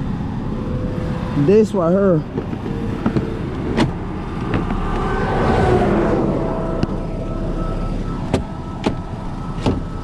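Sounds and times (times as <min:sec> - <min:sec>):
car engine rumbling: 0:00.0 - 0:10.0
rushing swell: 0:00.0 - 0:10.0.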